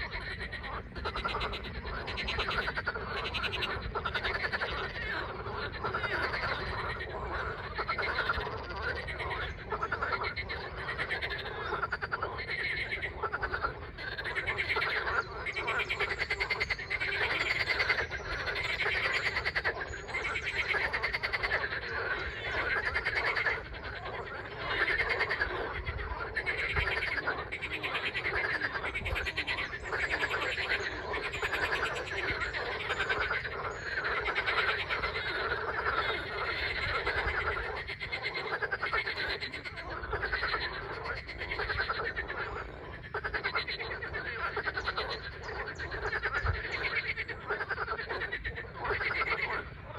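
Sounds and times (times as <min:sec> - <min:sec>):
chorus of frogs croaking: 0:00.0 - 0:49.9.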